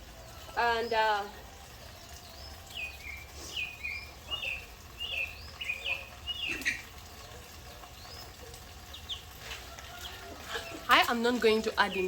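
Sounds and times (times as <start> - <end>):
small bird singing: 0.2 - 12.0.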